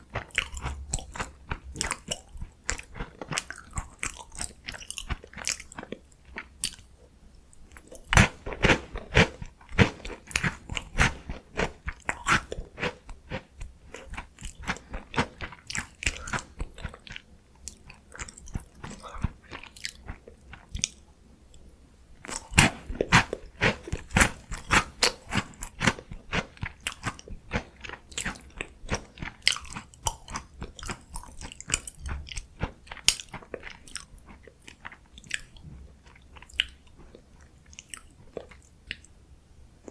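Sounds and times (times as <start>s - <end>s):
crunchy snack chewing: 0.1s - 6.9s, 7.7s - 21.0s, 22.2s - 39.1s.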